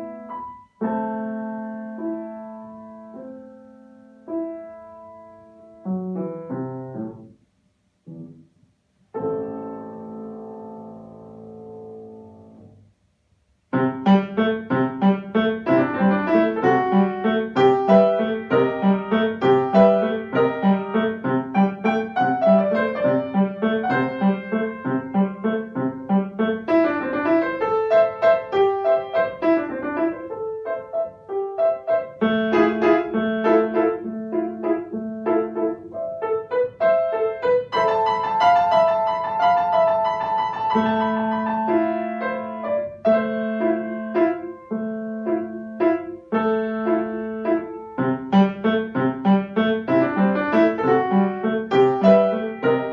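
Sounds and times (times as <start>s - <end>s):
grand piano playing: 0.0s - 7.4s, 8.0s - 12.7s, 13.7s - 52.9s.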